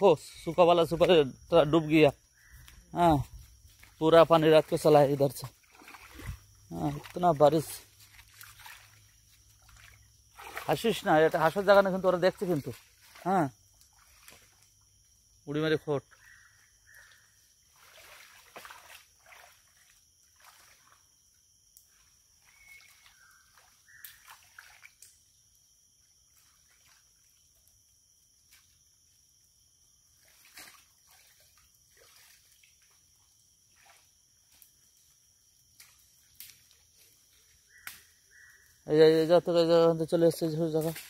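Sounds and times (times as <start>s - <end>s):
splashing in shallow water: 2.4s - 15.0s, 16.0s - 29.3s, 29.9s - 39.4s.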